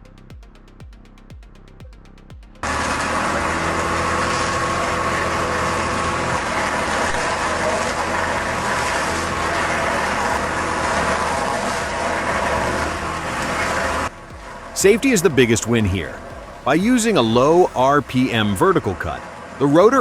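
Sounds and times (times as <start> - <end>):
heavy machine engine running: 2.6 - 20.0.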